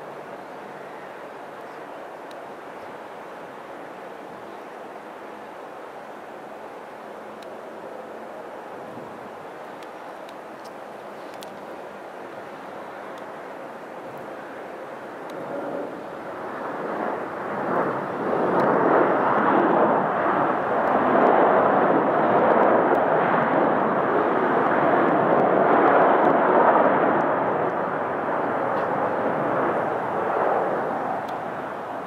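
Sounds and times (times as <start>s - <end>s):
jet airliner engines roaring: 0.0s - 32.0s.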